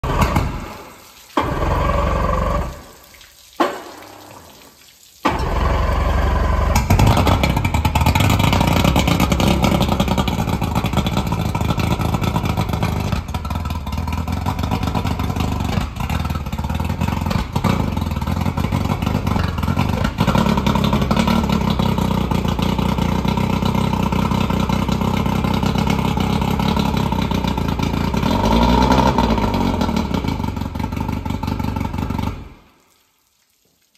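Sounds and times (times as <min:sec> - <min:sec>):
outboard motor cranking and running: 0:00.0 - 0:00.8, 0:01.4 - 0:02.8, 0:05.2 - 0:32.5
water spraying: 0:00.0 - 0:33.9.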